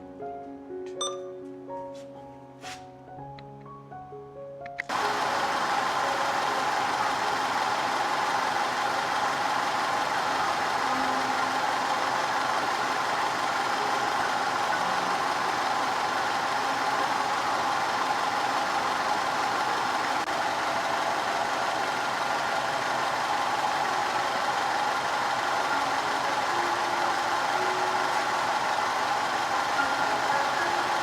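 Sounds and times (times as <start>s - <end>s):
car engine idling: 4.9s - 31.0s.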